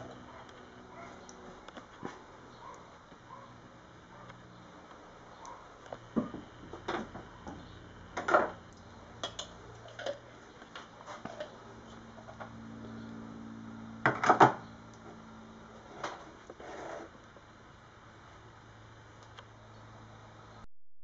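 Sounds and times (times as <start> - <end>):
faint low hum: 0.0 - 20.7.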